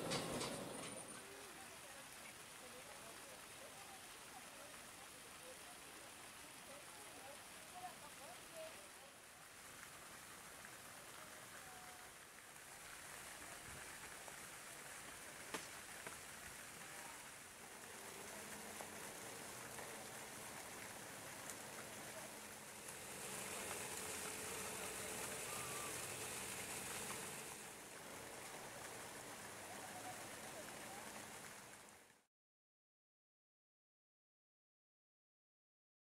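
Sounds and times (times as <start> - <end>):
fountain water splashing: 0.0 - 32.3.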